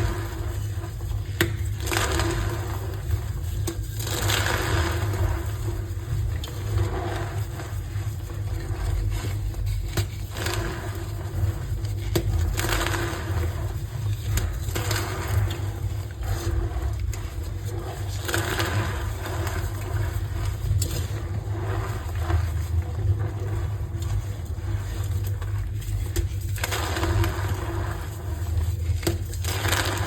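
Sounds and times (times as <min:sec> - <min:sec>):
low rumble: 0:04.0 - 0:30.0.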